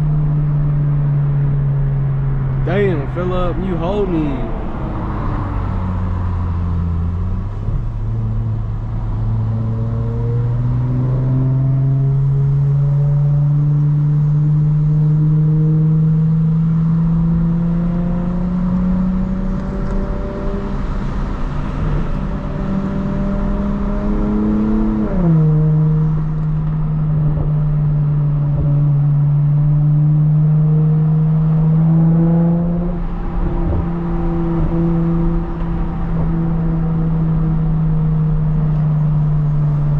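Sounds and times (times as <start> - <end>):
loud car engine accelerating: 2.2 - 39.9.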